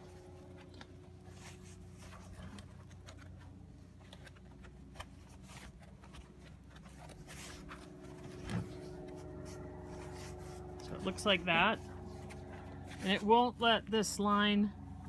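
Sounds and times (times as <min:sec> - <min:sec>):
rope rubbing on rubber gloves: 0:00.0 - 0:13.4.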